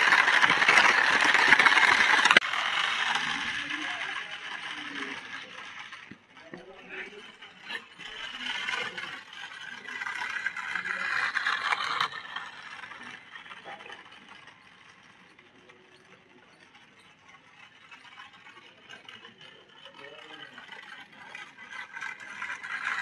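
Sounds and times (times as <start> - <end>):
plastic wheels rattling on concrete: 0.0 - 23.0
toy car electric motor whirring: 0.0 - 23.0.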